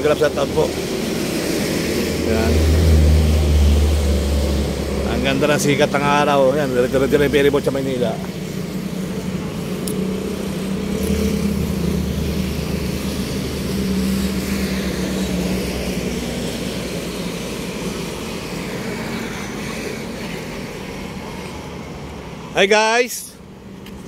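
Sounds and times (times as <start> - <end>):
engine drone: 0.0 - 22.2.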